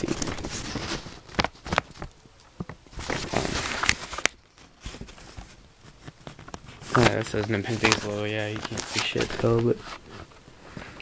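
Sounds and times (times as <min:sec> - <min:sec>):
paper and packaging rustling: 0:00.0 - 0:11.0.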